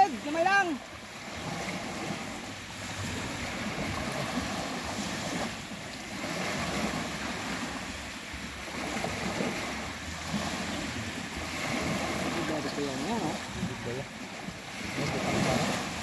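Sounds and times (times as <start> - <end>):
small waves breaking on sand: 0.0 - 16.0
wind rumbling on microphone: 0.0 - 16.0.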